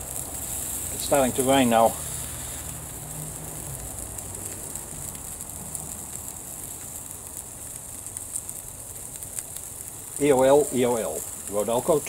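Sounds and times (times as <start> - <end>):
faint crackling: 0.0 - 12.0
light rain hiss: 0.0 - 12.0.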